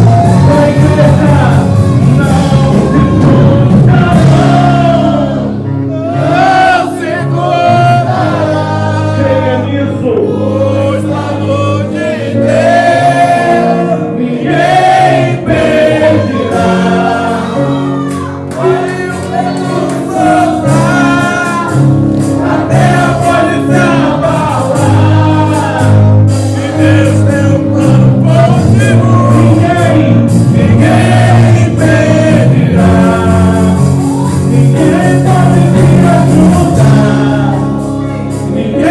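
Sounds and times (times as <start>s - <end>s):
group of voices singing: 0.0s - 38.9s
praise band playing: 0.0s - 38.9s.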